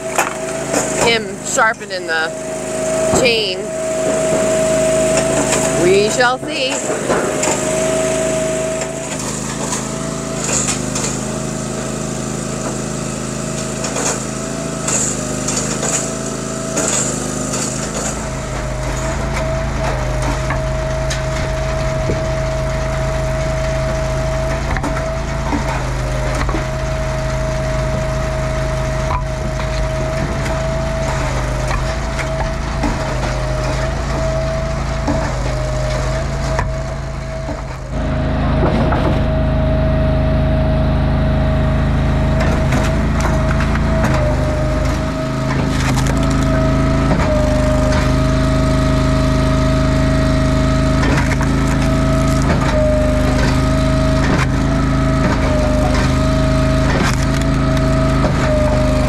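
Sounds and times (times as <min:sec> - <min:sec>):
wood splitter engine hum: 0:00.0 - 0:59.0.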